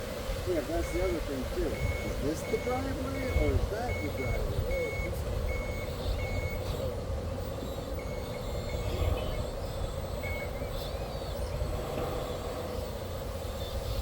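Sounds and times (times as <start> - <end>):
steady hum: 0.0 - 14.0
reversing beeper: 0.5 - 14.0.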